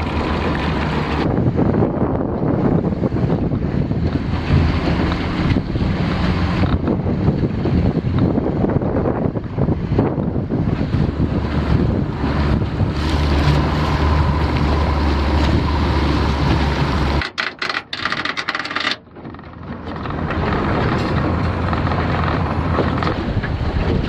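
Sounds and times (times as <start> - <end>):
boat motor droning: 0.0 - 24.0
water noise: 0.0 - 24.0
wind: 0.0 - 24.0.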